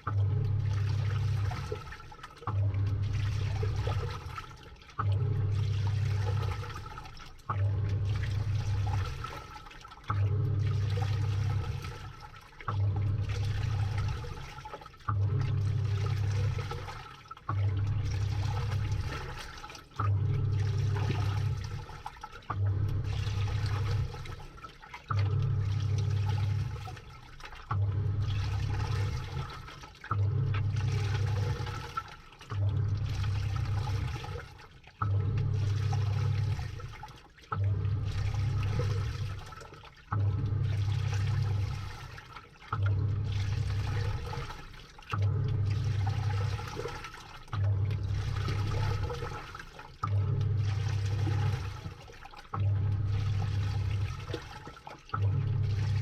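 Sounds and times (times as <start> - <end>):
washing machine motor humming: 0.0 - 56.0
water sloshing: 0.0 - 56.0.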